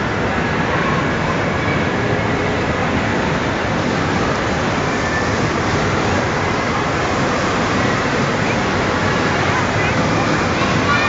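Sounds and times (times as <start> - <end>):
busy indoor amusement hall din: 0.0 - 11.0.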